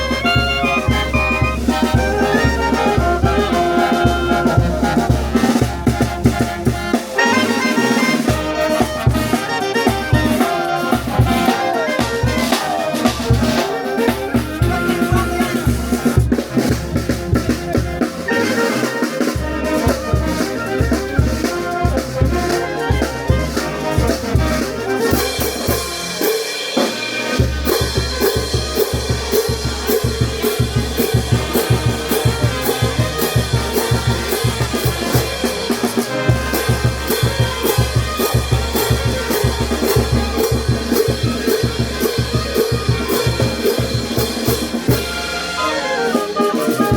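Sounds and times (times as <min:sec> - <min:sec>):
bass drum and snare beat: 0:00.0 - 0:45.6
brass band playing: 0:00.0 - 0:46.9.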